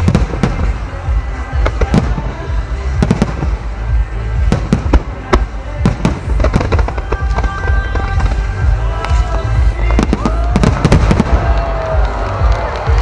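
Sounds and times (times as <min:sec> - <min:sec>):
firework bangs: 0:00.0 - 0:13.0
music playing: 0:00.0 - 0:13.0.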